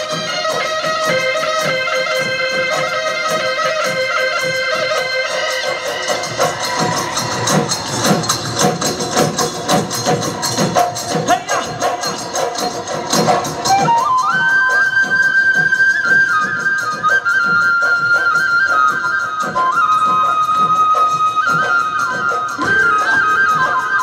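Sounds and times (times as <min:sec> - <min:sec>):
high wind pipe playing: 0:00.0 - 0:08.4, 0:11.4 - 0:24.0
dhol drum beating: 0:00.0 - 0:24.0.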